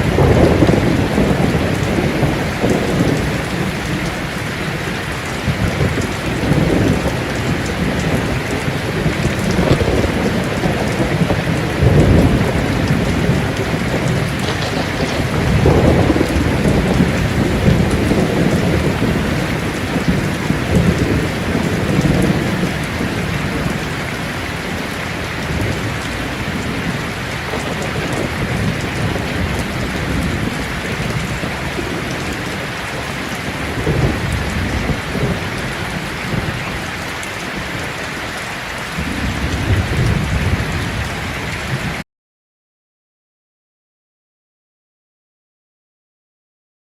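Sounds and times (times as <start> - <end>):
thunder rolling: 0.0 - 37.9, 38.9 - 41.8
heavy rain on a tin roof: 0.0 - 42.0.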